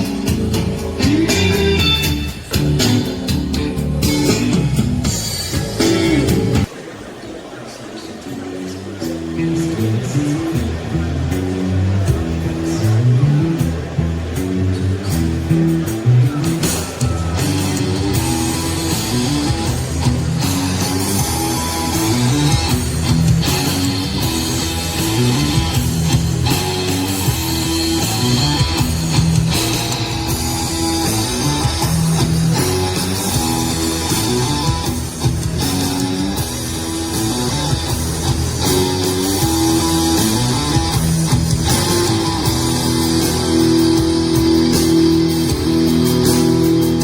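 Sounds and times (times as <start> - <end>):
guitar rock music with drums: 0.0 - 6.7, 9.1 - 47.0.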